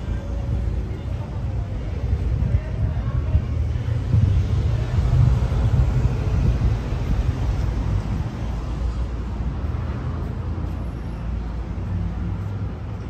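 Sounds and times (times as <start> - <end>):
passing cars rumble: 0.0 - 13.0.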